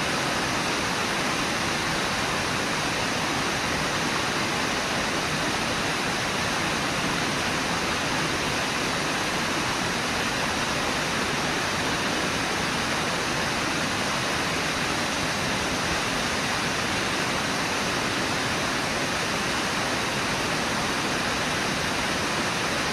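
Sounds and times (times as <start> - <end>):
river water roaring over falls: 0.0 - 22.9.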